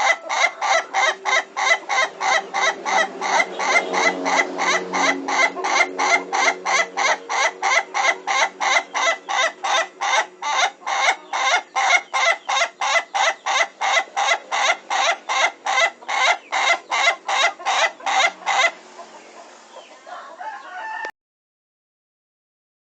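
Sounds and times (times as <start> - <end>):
rooster crowing with laugh-like notes: 0.0 - 18.8, 19.9 - 21.1.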